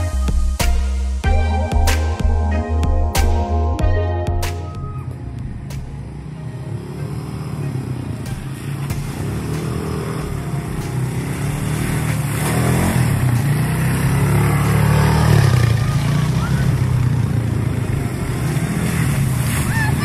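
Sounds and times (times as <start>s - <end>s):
quad bike engines: 1.3s - 20.0s.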